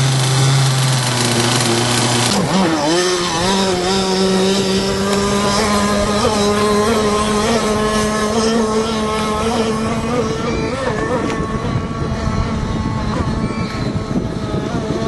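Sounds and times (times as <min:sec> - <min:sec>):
two-stroke model boat engine: 0:00.0 - 0:15.0.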